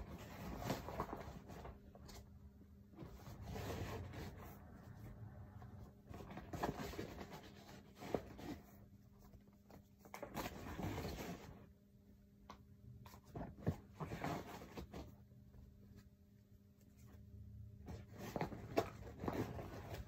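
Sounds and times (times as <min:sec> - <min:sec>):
rustling and scraping supplies: 0:00.0 - 0:11.8, 0:12.5 - 0:20.0.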